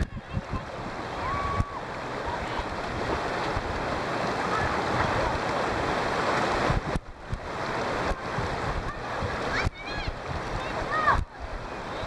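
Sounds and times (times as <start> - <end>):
wind buffeting microphone: 0.0 - 3.9, 4.5 - 12.0
stream rushing over rocks: 0.0 - 12.0.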